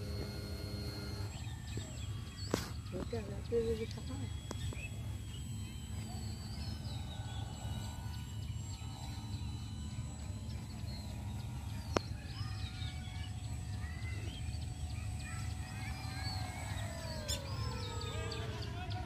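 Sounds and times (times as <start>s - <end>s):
birds chirping: 0.0s - 19.0s
model plane motor humming: 0.0s - 19.0s.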